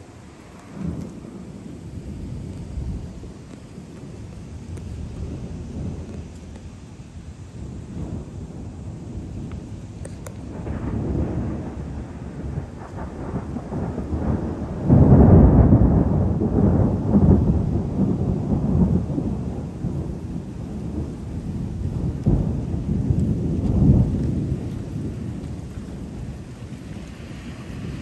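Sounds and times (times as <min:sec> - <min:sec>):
rolling thunder: 0:00.0 - 0:28.0.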